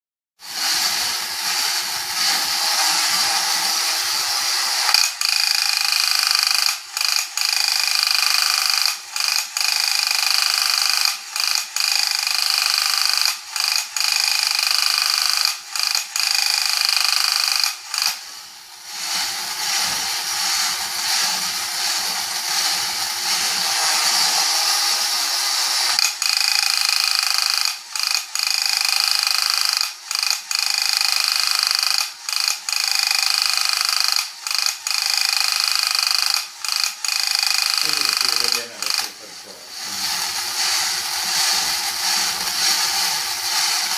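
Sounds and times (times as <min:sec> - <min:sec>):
toy robot motor and gears whirring: 0:00.4 - 0:43.9.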